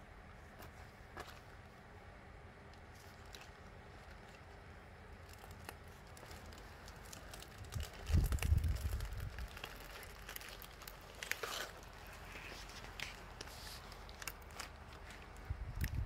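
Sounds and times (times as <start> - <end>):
plastic wrap crinkling: 2.8 - 16.0.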